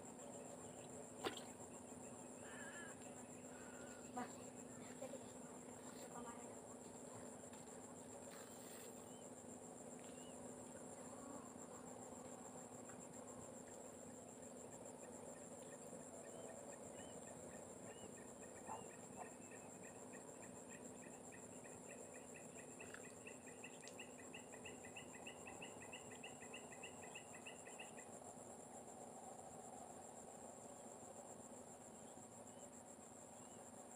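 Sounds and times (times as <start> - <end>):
insect chorus trilling: 0.0 - 33.9.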